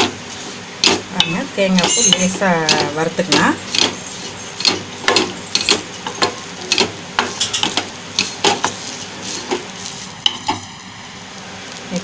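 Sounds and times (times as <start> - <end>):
spatula scraping a pan: 0.0 - 10.7.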